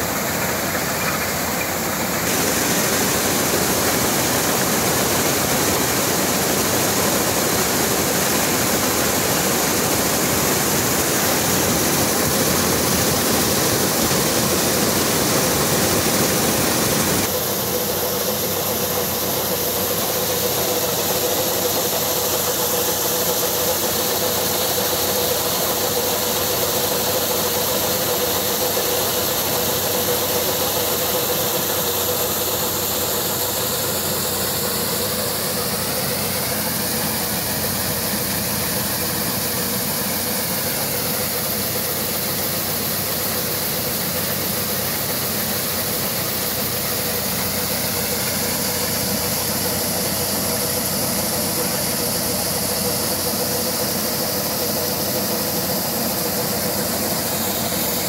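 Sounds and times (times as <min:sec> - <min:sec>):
kernels pouring hiss: 0:00.0 - 0:58.0
maize sheller machine running: 0:00.0 - 0:58.0.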